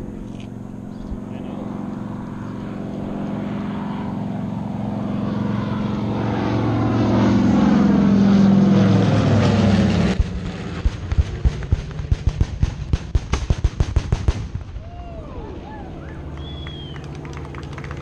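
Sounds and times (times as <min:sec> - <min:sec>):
propeller bomber engines droning: 0:00.0 - 0:18.0.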